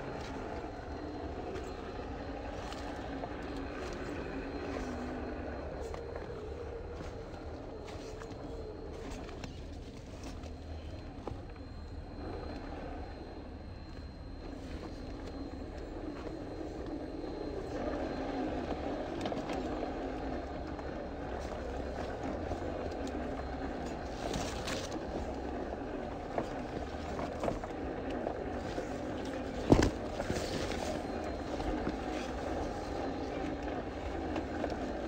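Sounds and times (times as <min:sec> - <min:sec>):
small electric motor and gearbox: 0:00.0 - 0:35.0.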